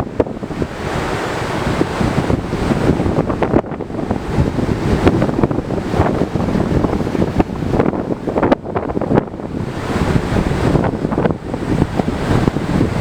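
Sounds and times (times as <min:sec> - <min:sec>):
sea noise: 0:00.0 - 0:13.0
wind buffeting microphone: 0:00.0 - 0:13.0.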